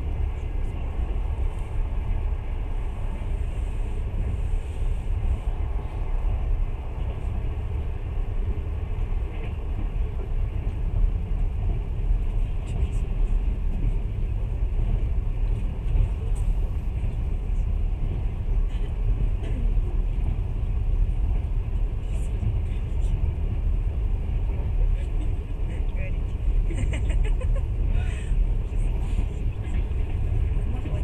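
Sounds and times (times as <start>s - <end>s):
train rumble inside carriage: 0.0s - 31.0s.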